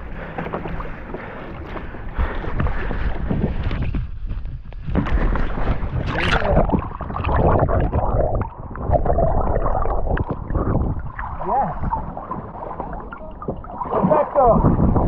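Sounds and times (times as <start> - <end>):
water splashing against kayak: 0.0 - 15.0
wind rumbling on microphone: 0.0 - 15.0.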